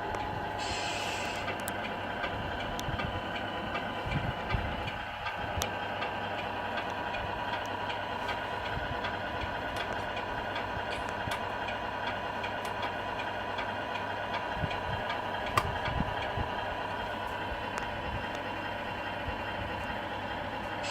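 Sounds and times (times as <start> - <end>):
diesel engine idle through speaker: 0.0 - 20.9.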